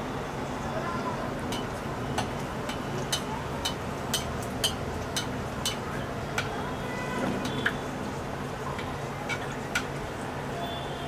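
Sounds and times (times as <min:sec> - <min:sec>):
oil sizzling and bubbling: 0:00.8 - 0:10.8.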